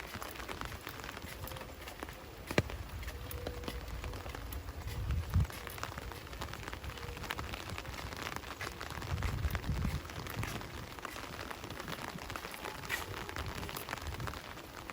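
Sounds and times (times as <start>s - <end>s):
raindrops ticking: 0.0s - 14.9s
steady rain falling: 0.0s - 14.9s.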